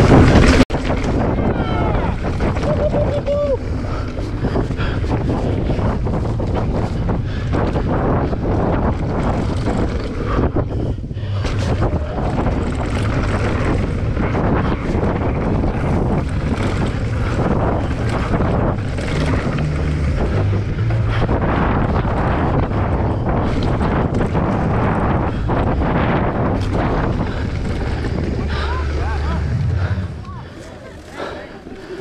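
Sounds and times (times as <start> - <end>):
bike rattling over bumps: 0.0 - 32.0
bike tyres rumbling: 0.0 - 32.0
wind rushing over microphone: 0.0 - 32.0.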